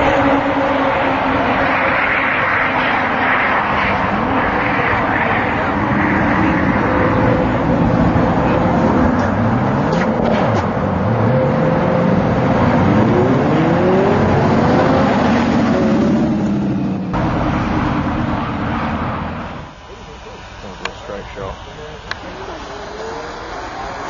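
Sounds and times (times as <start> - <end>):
sports cars accelerating hard: 0.0 - 19.8.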